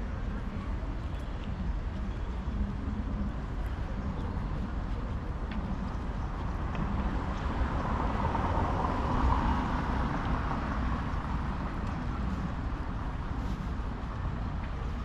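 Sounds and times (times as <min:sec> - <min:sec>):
steady low rumble: 0:00.0 - 0:15.0
road vehicle passing by: 0:02.9 - 0:15.0.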